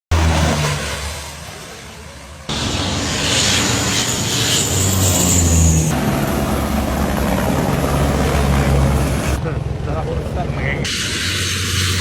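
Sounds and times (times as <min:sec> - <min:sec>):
helicopter turbine and rotor: 0:00.2 - 0:12.0.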